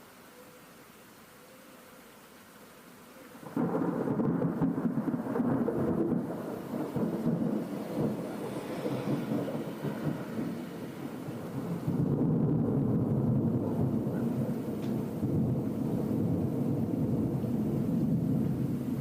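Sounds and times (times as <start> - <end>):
thunder clap and rumble: 3.4 - 19.0.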